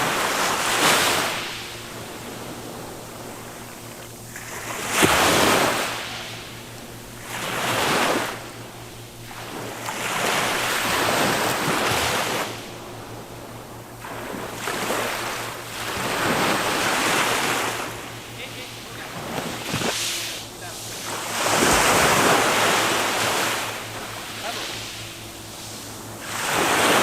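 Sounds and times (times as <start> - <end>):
small waves breaking on beach: 0.0 - 27.0.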